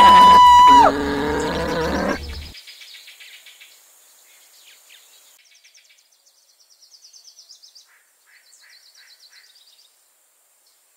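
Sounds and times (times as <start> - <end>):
light steady hiss: 1.4 - 10.9.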